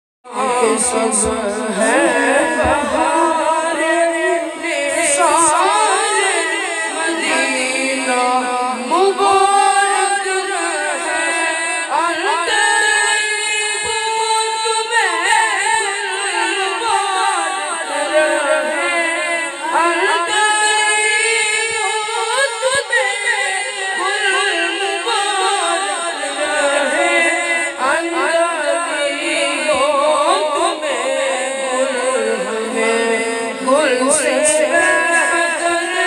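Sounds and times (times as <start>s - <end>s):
boys singing devotional song: 0.3s - 36.0s.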